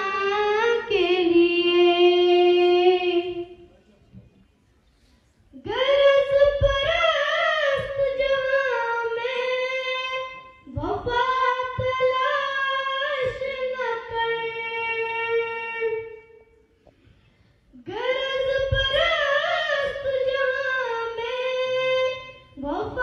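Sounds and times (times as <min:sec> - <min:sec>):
girl singing unaccompanied: 0:00.0 - 0:03.6, 0:05.6 - 0:16.4, 0:17.8 - 0:23.0.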